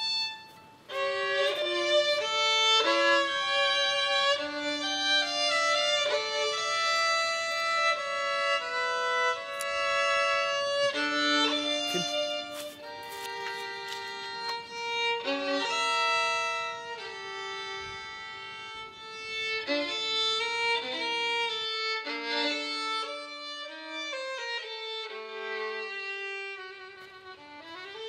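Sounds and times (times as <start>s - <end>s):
violin music with bowed notes: 0.0s - 28.0s.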